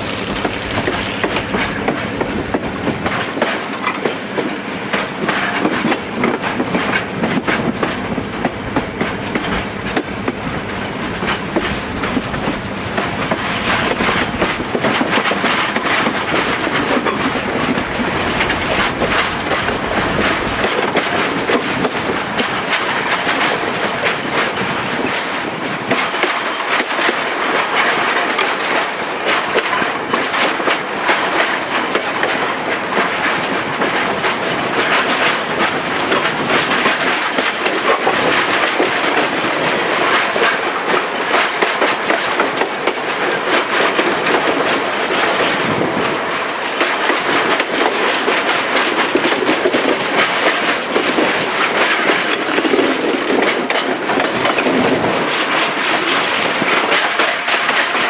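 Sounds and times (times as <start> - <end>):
train rumble: 0.0 - 58.0
train wheels clicking over rail joints: 0.0 - 58.0.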